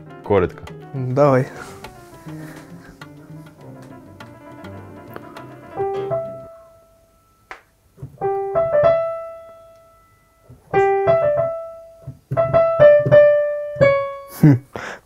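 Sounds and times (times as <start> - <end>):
digital piano notes: 0.0 - 14.5.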